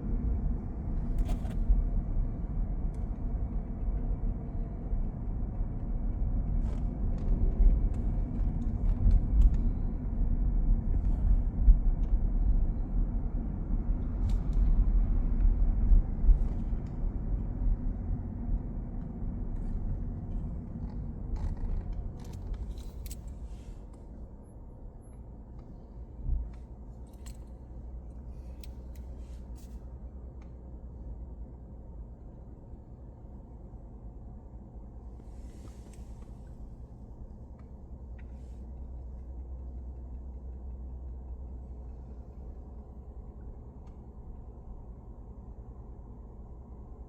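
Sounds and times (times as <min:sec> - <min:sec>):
city road traffic rumble: 0:00.0 - 0:47.0.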